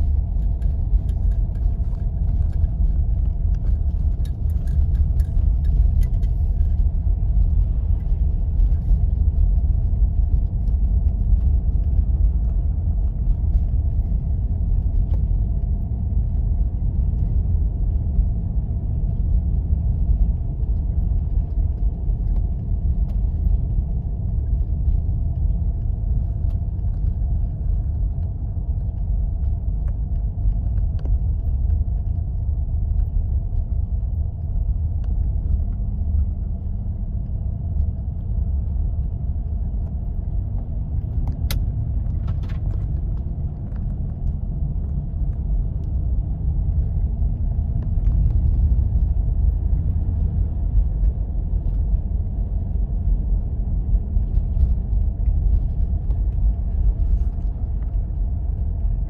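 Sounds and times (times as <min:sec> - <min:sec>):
engine and tyres rumbling: 0:00.0 - 0:59.0
faint hum: 0:00.0 - 0:59.0.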